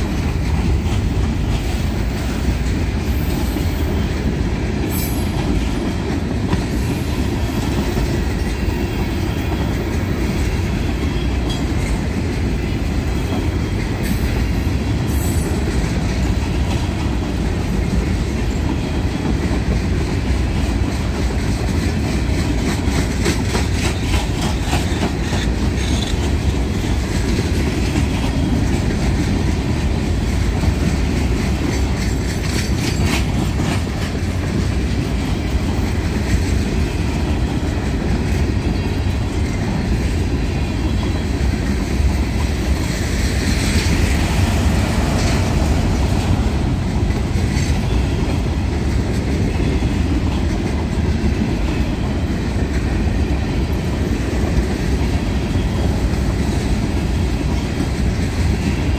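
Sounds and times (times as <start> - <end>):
freight train rumbling past: 0.0 - 58.9
wheels clacking over rail joints: 0.0 - 58.9.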